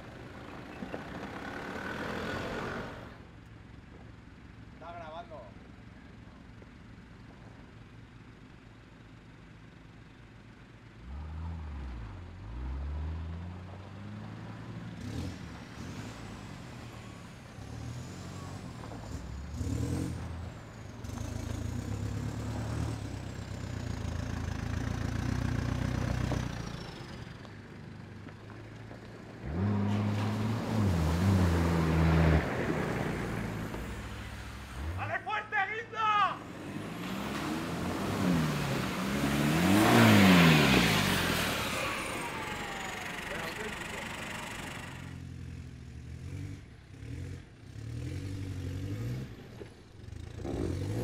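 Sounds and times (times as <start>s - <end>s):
off-road vehicle engine revving: 0.0s - 3.3s, 10.9s - 27.4s, 28.2s - 51.0s.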